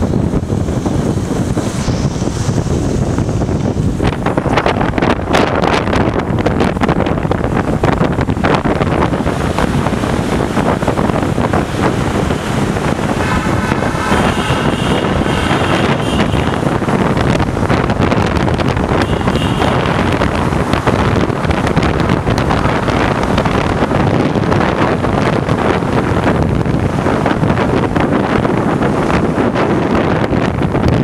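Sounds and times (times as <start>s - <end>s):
motorcycle engine: 0.0s - 30.9s
road noise: 0.0s - 31.0s
wind buffeting microphone: 0.0s - 31.0s.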